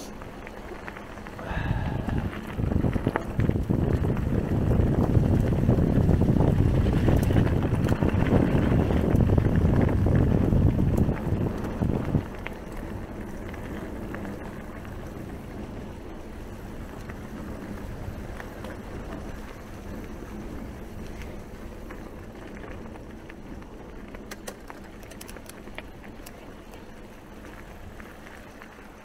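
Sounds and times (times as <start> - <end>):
bike tyre and trail noise: 0.0 - 29.0
wind buffeting microphone: 1.4 - 28.9.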